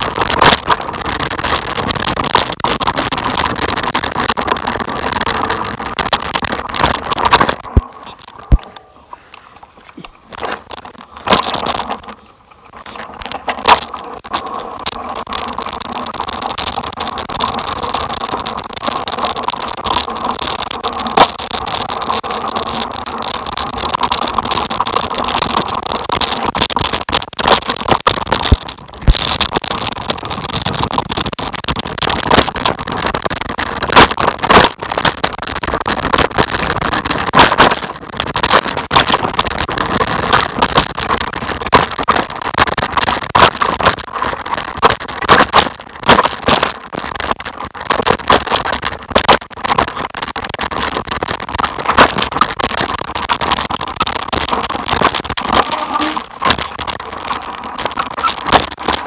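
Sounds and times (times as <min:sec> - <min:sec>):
wheels rolling and rattling on dirt: 0:00.0 - 0:59.0.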